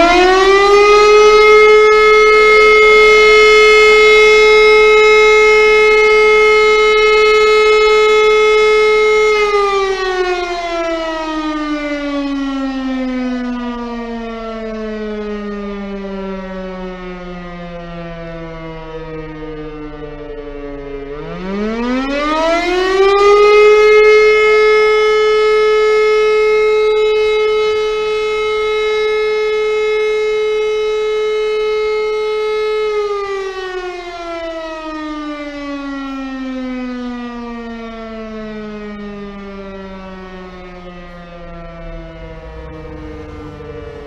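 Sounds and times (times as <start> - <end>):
motor siren wailing: 0.0 - 44.0.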